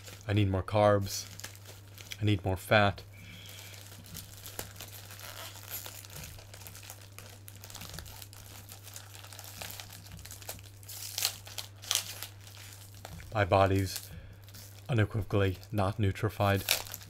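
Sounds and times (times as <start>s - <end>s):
low steady hum: 0.0s - 17.0s
plastic wrapping rustling: 0.0s - 17.0s.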